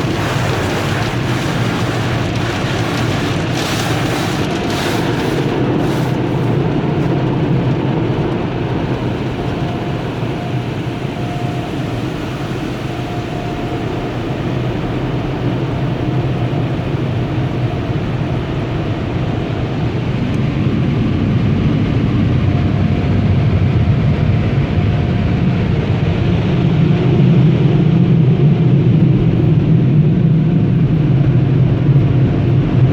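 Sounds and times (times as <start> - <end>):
car wash machinery rumbling: 0.0 - 32.9.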